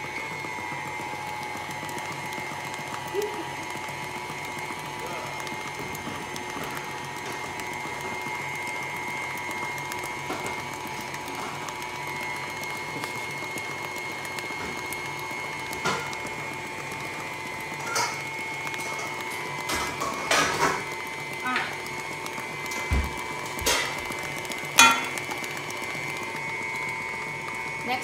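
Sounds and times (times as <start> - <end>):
stand mixer motor whine: 0.0 - 28.0.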